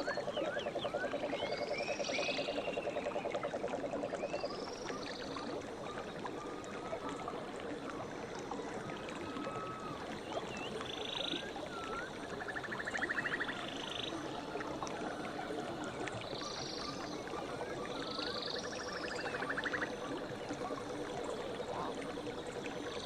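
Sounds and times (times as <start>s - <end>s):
running water of stream: 0.0s - 23.0s.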